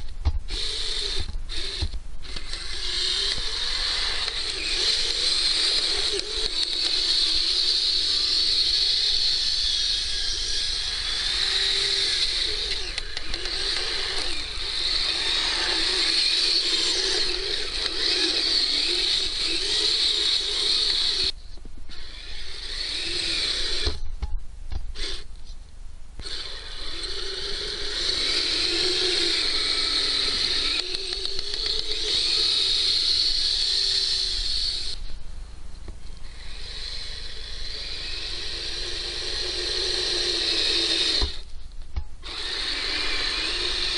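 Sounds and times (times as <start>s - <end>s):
electric motor and track drive whining: 0.0s - 24.1s, 25.0s - 25.4s, 26.2s - 35.2s, 36.0s - 41.6s, 42.2s - 43.9s.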